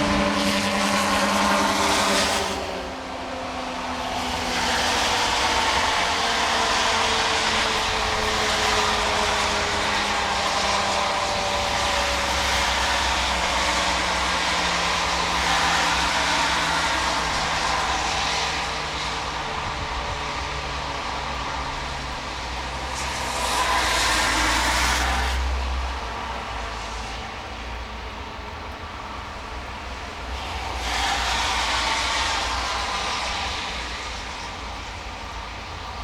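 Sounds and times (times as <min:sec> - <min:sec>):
tornado siren gliding down: 0:00.0 - 0:36.0.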